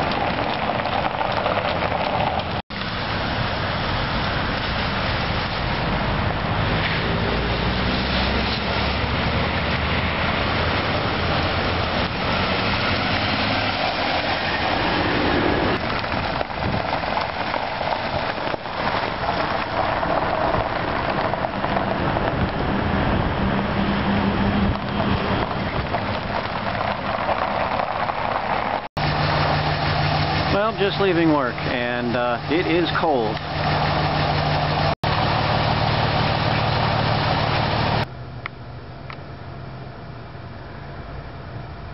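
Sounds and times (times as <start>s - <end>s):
low engine hum: 0.0s - 41.9s
road and tyre noise: 0.0s - 41.9s.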